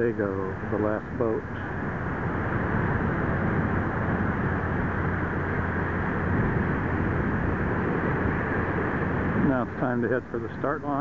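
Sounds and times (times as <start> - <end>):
low steady hum: 0.0 - 11.0
wind on microphone: 0.0 - 11.0.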